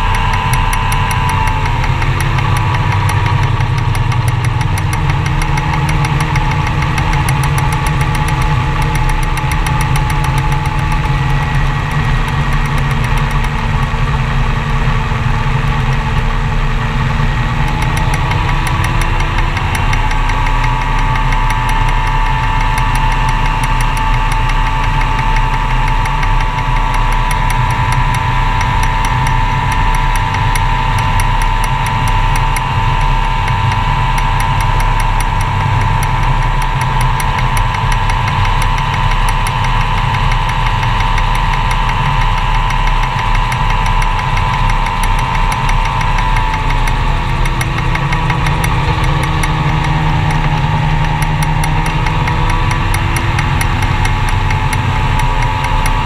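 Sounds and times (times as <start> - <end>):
light aircraft engine running: 0.0 - 56.0.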